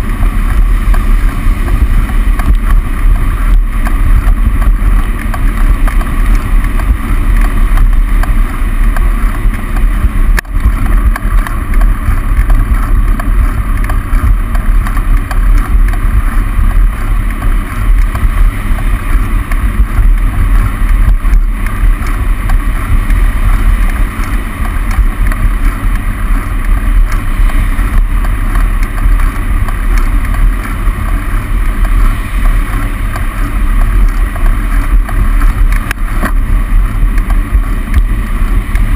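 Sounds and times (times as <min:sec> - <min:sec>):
car traffic rumble in tunnel: 0:00.0 - 0:38.9
wind buffeting microphone: 0:00.0 - 0:38.9.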